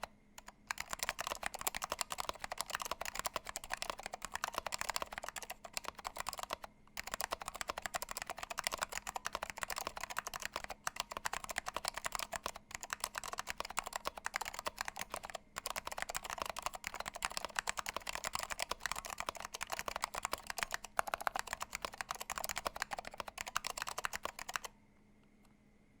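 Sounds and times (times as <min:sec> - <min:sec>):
fast typing on mechanical keyboard: 0:00.0 - 0:24.7.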